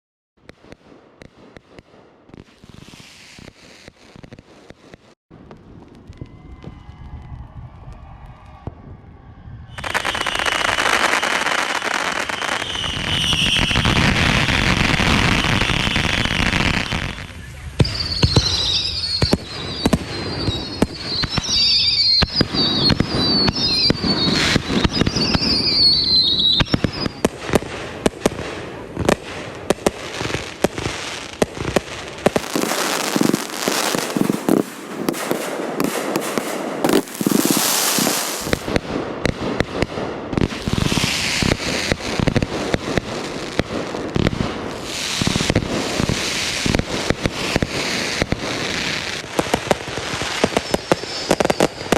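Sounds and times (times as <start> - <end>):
fireworks bangs and crackling: 0.4 - 51.9
falling firework whistles: 2.5 - 4.8, 6.0 - 28.2, 29.8 - 38.8, 39.5 - 51.9.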